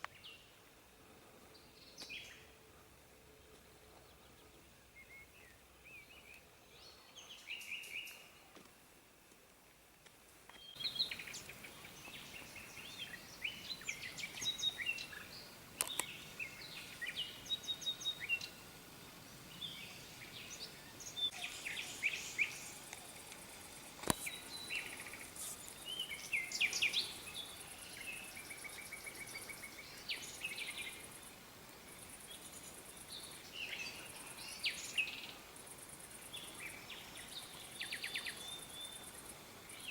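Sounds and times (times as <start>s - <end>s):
songbirds chirping and trilling: 0.0s - 8.6s, 10.5s - 39.9s
steady outdoor hiss: 0.0s - 39.9s.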